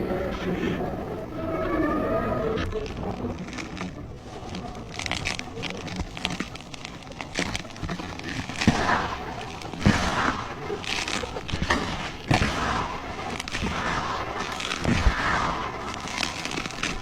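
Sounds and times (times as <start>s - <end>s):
cement crumbling and crunching: 2.6s - 17.0s.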